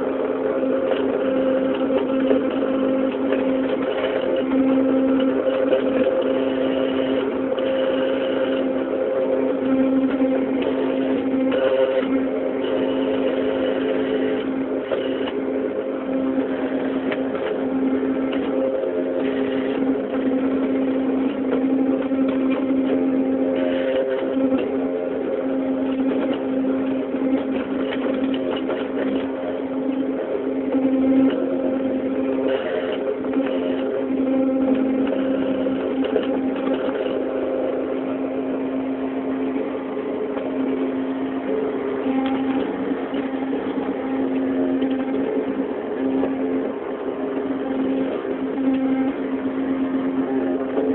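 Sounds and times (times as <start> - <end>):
machine humming and whirring: 0.0 - 50.9.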